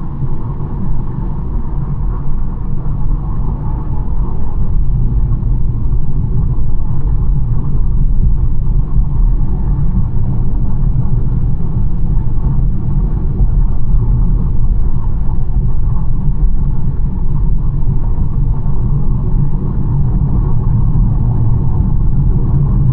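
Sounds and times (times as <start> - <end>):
car tyre and engine rumble: 0.0 - 22.9.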